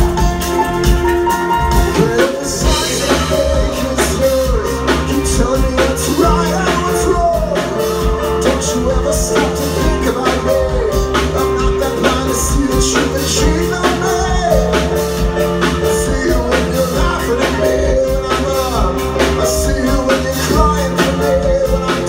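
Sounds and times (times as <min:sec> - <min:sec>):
live rock band playing: 0:00.0 - 0:22.0
man singing: 0:01.6 - 0:22.0.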